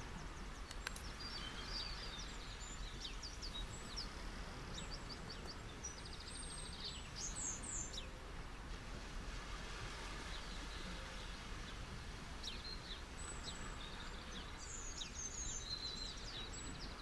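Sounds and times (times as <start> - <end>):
sea waves on a beach: 0.0 - 17.0
songbirds chirping: 0.0 - 17.0.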